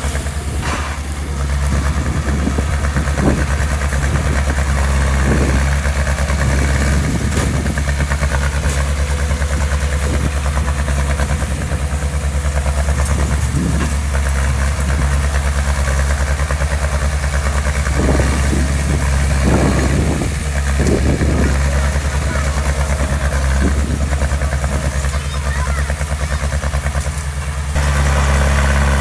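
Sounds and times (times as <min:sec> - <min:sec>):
diesel engine running at low revs: 0:00.0 - 0:29.0.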